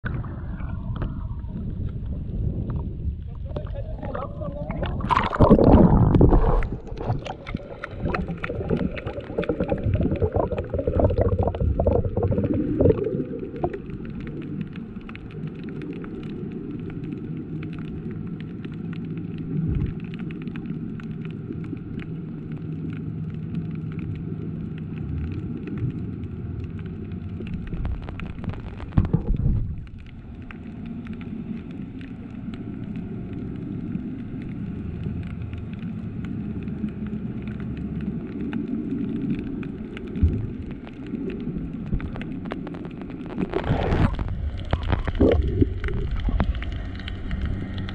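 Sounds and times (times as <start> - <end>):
muffled underwater rumble: 0.0 - 47.9
faint steady hum: 0.1 - 47.9
faint crackling: 0.5 - 47.9.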